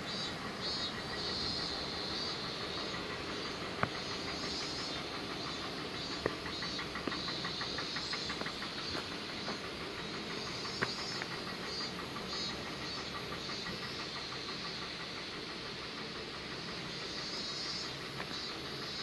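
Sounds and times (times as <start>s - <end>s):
rushing outdoor noise: 0.0s - 19.0s.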